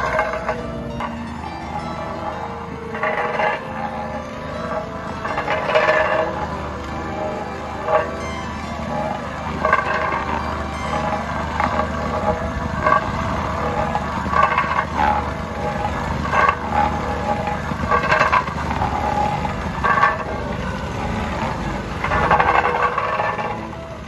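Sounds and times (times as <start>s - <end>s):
plate compactor engine rumbling: 0.0s - 24.0s.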